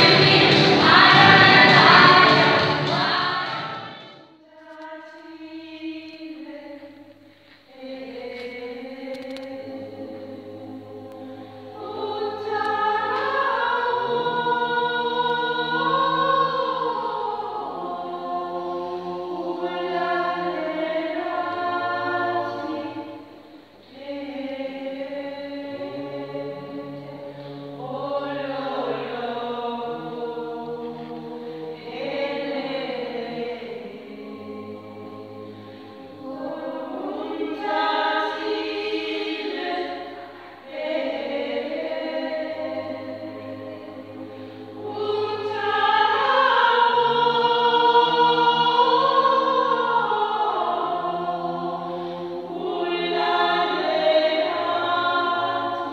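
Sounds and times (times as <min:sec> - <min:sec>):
gospel choir singing in harmony: 0:00.0 - 0:55.9.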